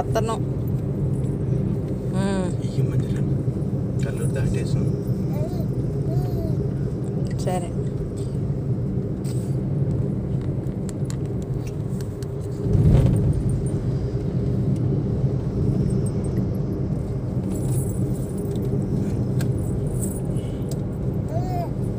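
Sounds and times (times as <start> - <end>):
car engine and road rumble: 0.0 - 21.9.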